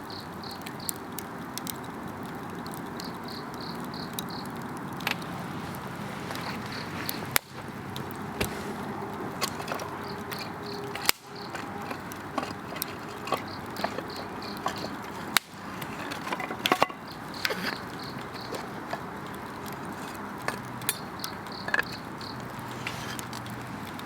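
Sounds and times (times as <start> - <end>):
campfire crackling and popping: 0.0 - 24.0
insects chirping: 2.9 - 24.0.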